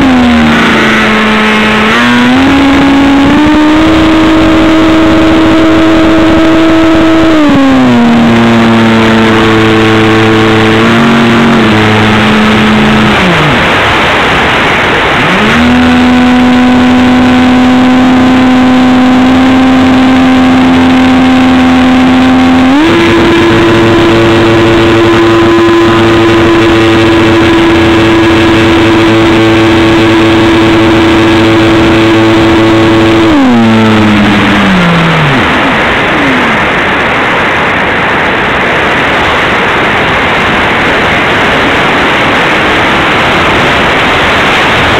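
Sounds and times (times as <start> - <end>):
electric motor and propeller whine: 0.0 - 44.9
rushing air: 8.4 - 44.9.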